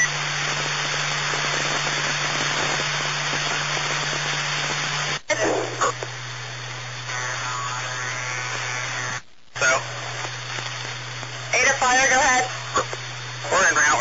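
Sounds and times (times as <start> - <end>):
radio crackle: 0.0 - 14.0
radio static hiss: 0.0 - 14.0.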